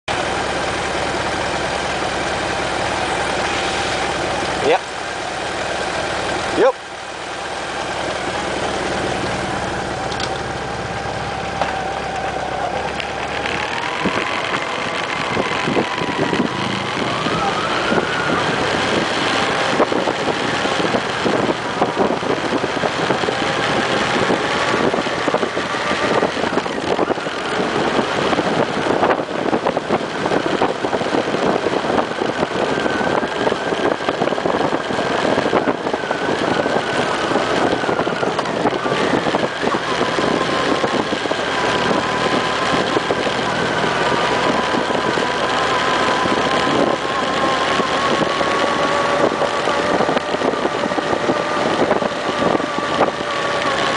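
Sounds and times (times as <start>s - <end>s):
motorcycle engine accelerating: 0.1s - 53.9s
wind buffeting microphone: 7.5s - 53.9s.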